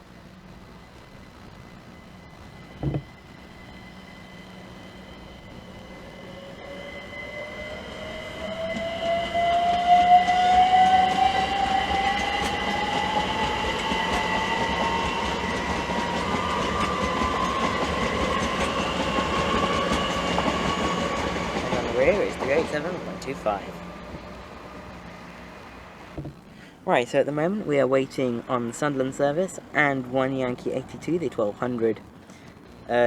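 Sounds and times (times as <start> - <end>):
train rolling noise: 0.0 - 33.0
train traction motors whining: 0.0 - 33.0.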